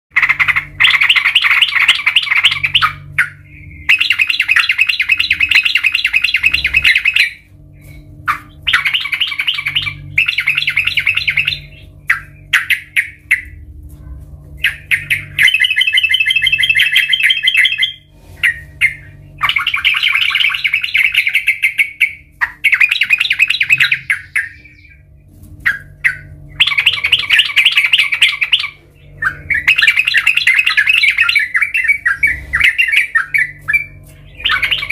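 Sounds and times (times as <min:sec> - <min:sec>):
bird chattering song: 0:00.1 - 0:13.7, 0:14.6 - 0:34.9
faint low hum: 0:00.1 - 0:34.9.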